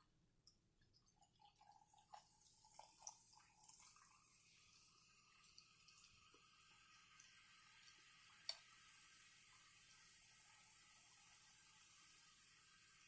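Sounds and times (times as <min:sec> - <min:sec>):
sparkling water pouring: 0:01.0 - 0:13.0.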